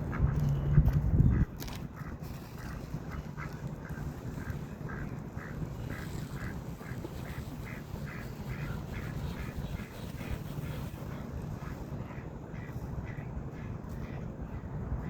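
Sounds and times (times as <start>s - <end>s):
ducks quacking: 1.3s - 14.7s.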